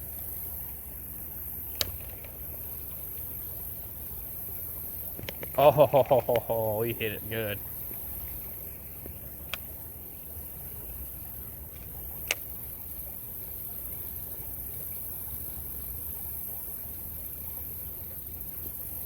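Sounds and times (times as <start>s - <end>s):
high insect drone: 0.0s - 19.0s
running water: 0.1s - 19.0s.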